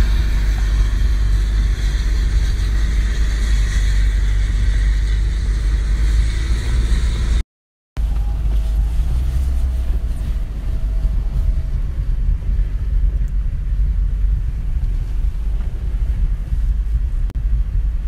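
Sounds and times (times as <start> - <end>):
vehicle engine and tyres rumbling: 0.0 - 7.4, 8.0 - 18.0.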